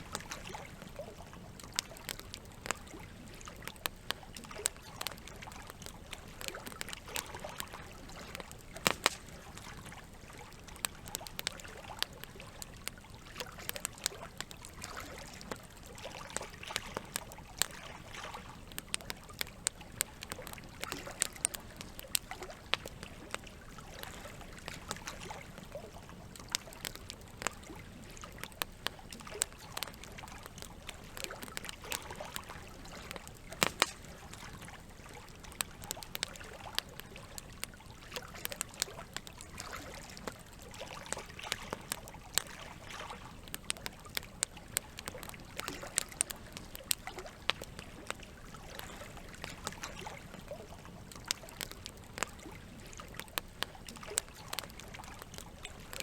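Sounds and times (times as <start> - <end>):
campfire crackling and popping: 0.0 - 56.0
trickle of running water: 0.0 - 56.0.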